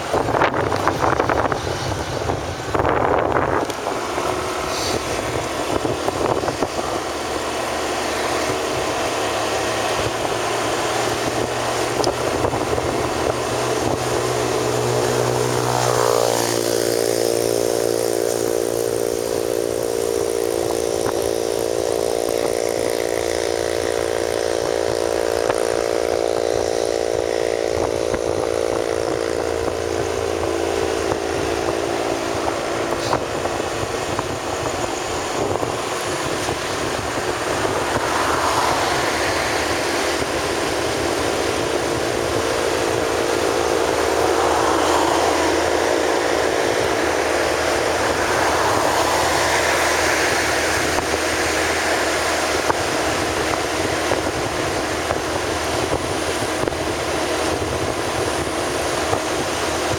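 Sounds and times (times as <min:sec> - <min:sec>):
vehicle engine humming: 0:00.0 - 0:59.9
wind noise on microphone: 0:00.0 - 0:59.9.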